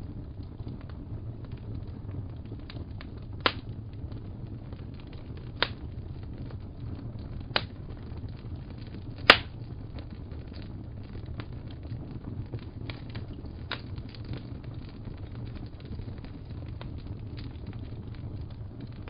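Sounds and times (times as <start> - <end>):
sharp fire pops: 0.0 - 19.0
steady low rumble: 0.0 - 19.0
wood fire crackling: 0.0 - 19.0.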